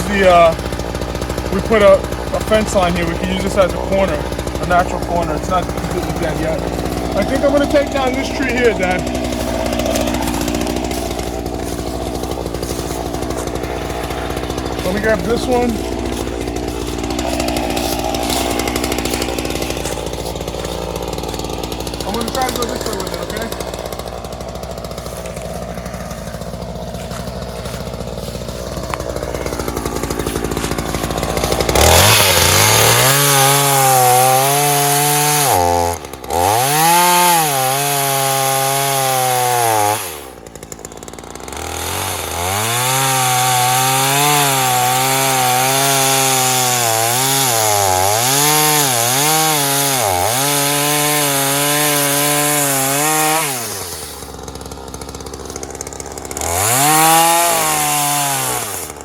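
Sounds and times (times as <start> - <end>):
chainsaw cutting through tree trunk: 0.0 - 59.0.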